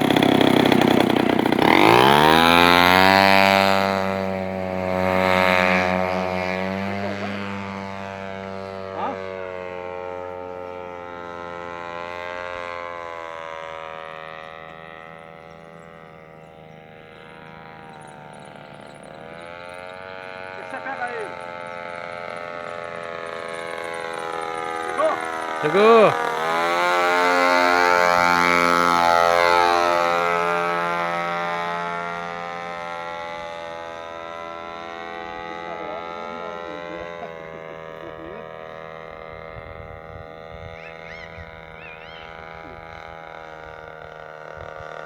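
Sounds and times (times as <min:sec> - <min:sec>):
model airplane engine droning: 0:00.0 - 0:45.0.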